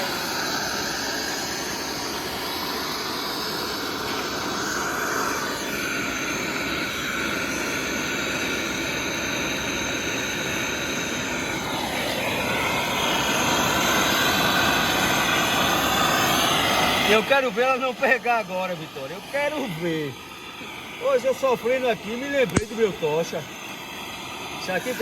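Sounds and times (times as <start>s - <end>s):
torch flame blowing: 0.0s - 25.0s.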